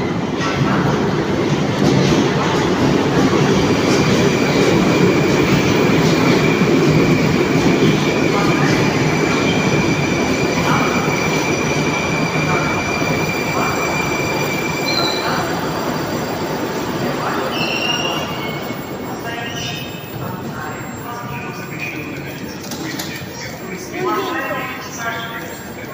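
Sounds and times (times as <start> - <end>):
train wheels rumbling on track: 0.0 - 23.9.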